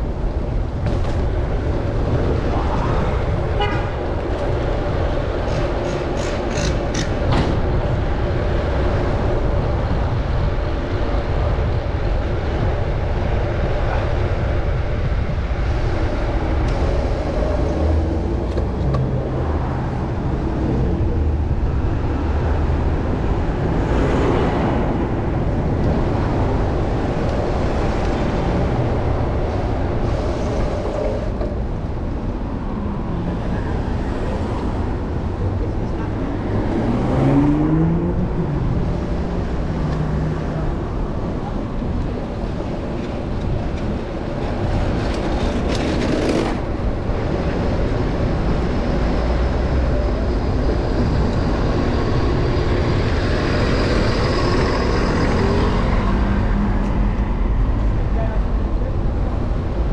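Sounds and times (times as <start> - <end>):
city traffic: 0.0 - 59.9
wind rumble: 0.0 - 59.9.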